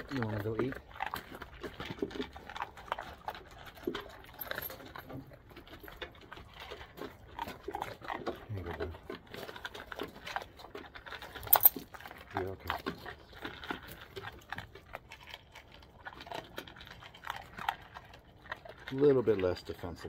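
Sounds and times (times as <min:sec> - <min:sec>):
dogs crunching dry kibble: 0:00.0 - 0:20.0.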